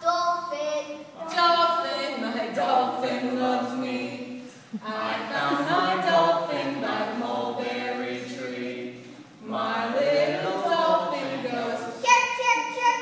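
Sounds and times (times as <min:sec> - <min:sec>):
voices singing a cappella: 0:01.2 - 0:13.0.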